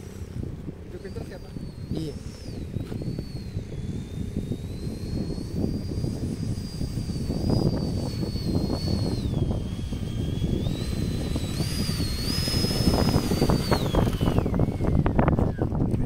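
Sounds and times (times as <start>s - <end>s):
high electric whine: 0.0s - 16.0s
wind buffeting microphone: 0.0s - 16.0s.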